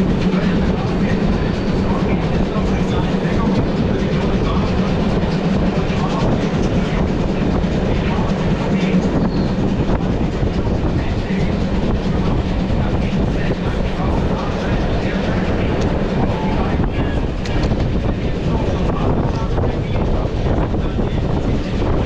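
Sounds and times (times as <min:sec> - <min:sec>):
rail clatter: 0:00.0 - 0:22.0
train wheels rumbling on rails: 0:00.0 - 0:22.0.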